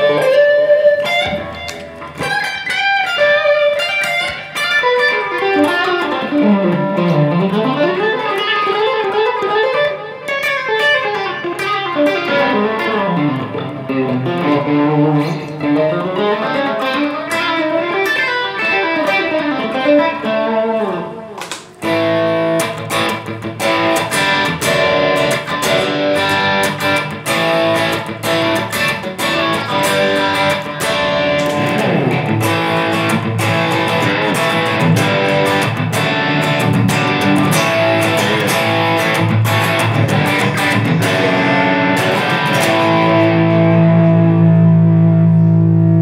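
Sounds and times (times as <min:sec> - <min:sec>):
electric guitar notes and bends: 0:00.0 - 0:46.0.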